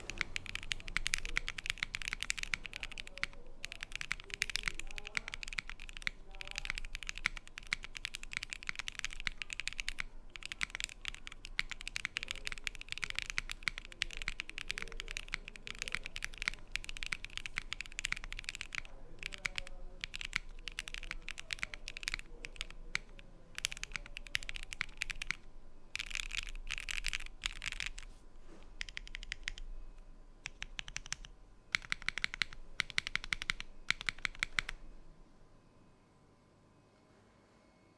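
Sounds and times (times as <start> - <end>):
mechanical keyboard typing: 0.0 - 28.1, 28.7 - 29.7, 30.4 - 34.8.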